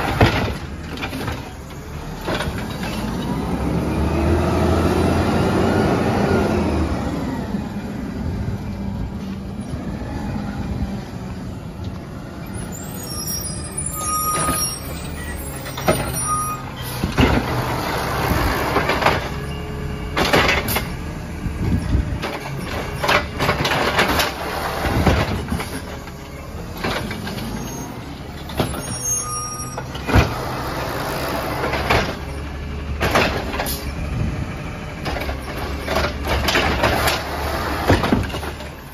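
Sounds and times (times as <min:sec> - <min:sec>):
trash carts banging and clattering: 0:00.0 - 0:05.7, 0:11.8 - 0:38.9.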